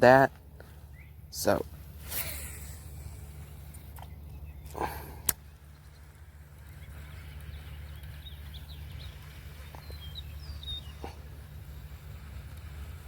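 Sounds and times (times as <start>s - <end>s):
birds chirping faintly: 0.0s - 12.9s
steady low rumble: 0.0s - 13.0s.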